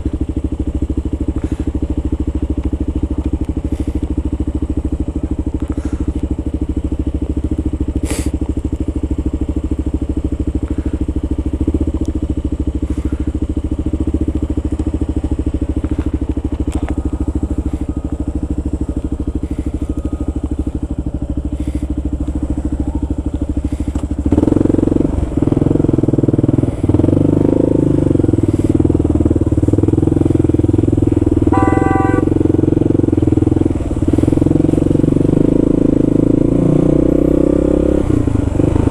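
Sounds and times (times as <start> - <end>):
motorcycle engine thrumming: 0.0 - 36.5.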